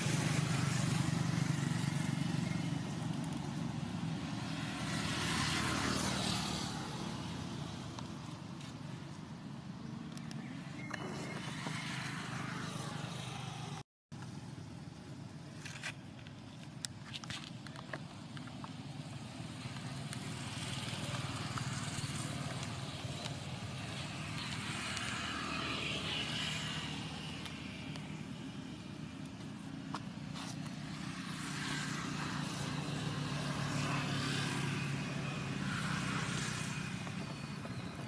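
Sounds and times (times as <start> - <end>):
traffic passing by: 0.0 - 38.0.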